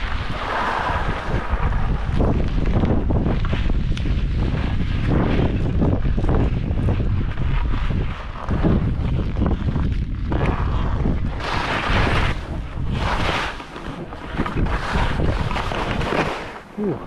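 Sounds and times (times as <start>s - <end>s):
skis scraping on hard snow: 0.0s - 16.8s
wind rumble on microphone: 0.0s - 17.0s.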